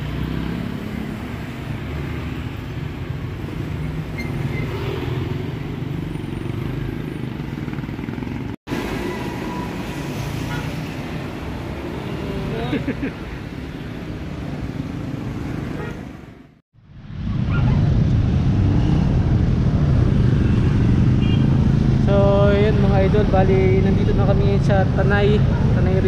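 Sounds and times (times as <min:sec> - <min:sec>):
road and traffic rumble: 0:00.0 - 0:26.0.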